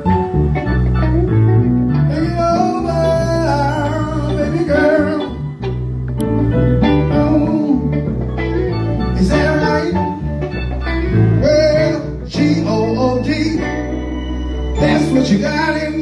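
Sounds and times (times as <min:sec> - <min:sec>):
bass guitar: 0:00.0 - 0:16.0
bending lead melody: 0:00.0 - 0:16.0.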